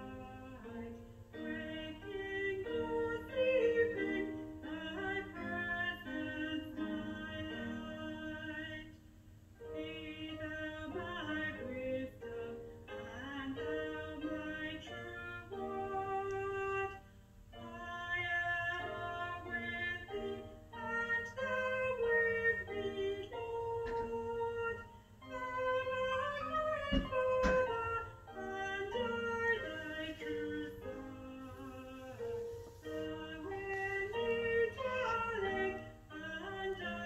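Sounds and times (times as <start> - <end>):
hymn singing: 0.0 - 9.0, 9.6 - 37.0.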